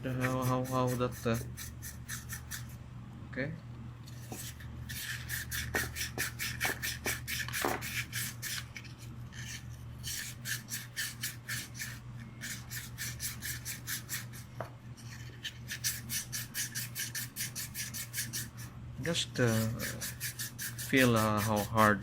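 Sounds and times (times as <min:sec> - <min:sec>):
sandpaper scrubbing rhythmic rasp: 0:00.0 - 0:02.7, 0:04.2 - 0:08.7, 0:09.4 - 0:14.4, 0:15.4 - 0:22.0.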